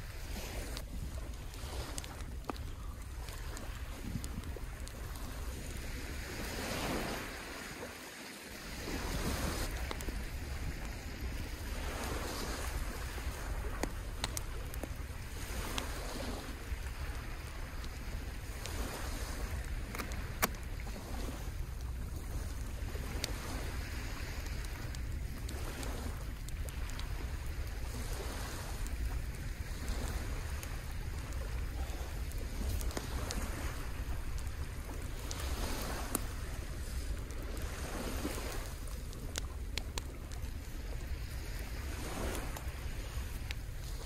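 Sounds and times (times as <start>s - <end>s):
small waves washing onto shore: 0.0s - 44.0s
wind rumbling on microphone: 0.0s - 44.0s.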